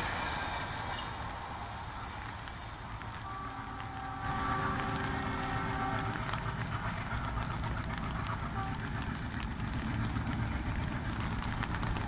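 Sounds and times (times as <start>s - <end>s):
diesel train rumbling: 0.0s - 12.0s
rain hissing: 0.0s - 12.0s.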